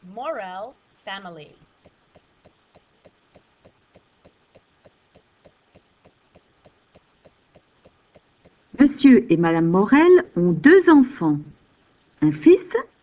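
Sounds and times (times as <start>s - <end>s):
faint regular ticking: 0.6s - 13.0s.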